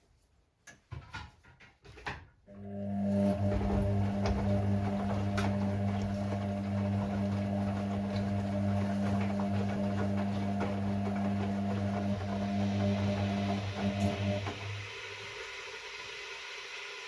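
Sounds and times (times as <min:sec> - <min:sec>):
washing machine motor hum: 0:02.5 - 0:17.0.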